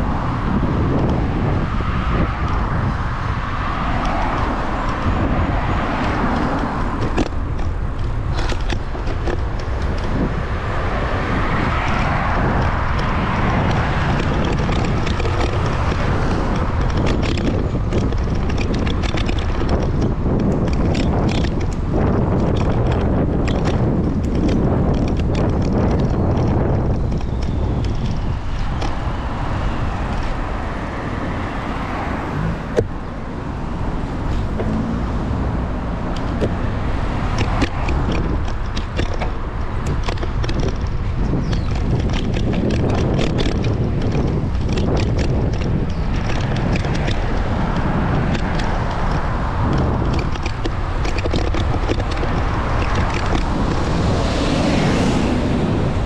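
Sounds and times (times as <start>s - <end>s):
road traffic noise: 0.0s - 56.0s
wind rumbling on microphone: 0.0s - 56.0s.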